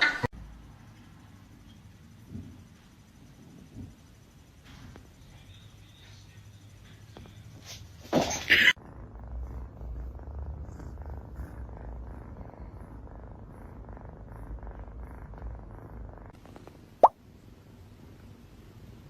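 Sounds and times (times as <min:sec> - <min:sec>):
cat purring: 0:01.3 - 0:19.0.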